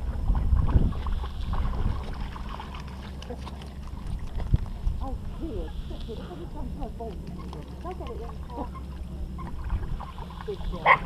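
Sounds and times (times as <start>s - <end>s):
dogs splashing in water: 0.0s - 11.0s
steady low rumble: 0.0s - 11.0s.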